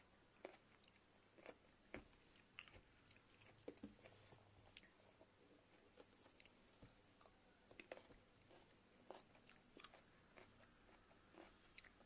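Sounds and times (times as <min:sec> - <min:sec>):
crunchy chewing: 0:00.4 - 0:12.0.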